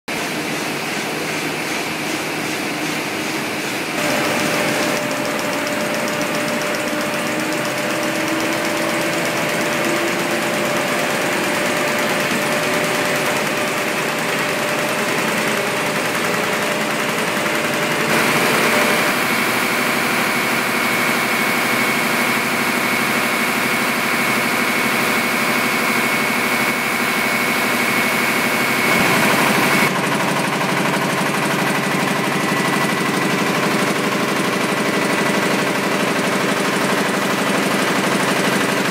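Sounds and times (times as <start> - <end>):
printing presses running: 0.1 - 38.9
high machine whines: 0.4 - 38.9.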